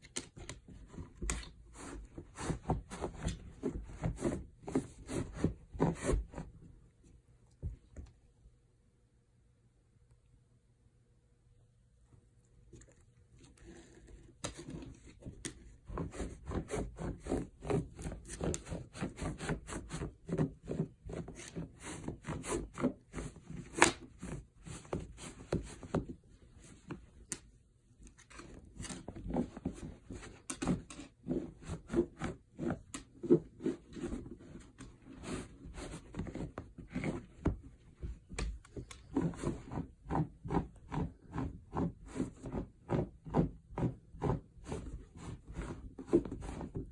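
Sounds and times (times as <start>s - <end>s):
dog paws scratching a carpet mat: 0.0s - 8.1s, 12.8s - 46.9s.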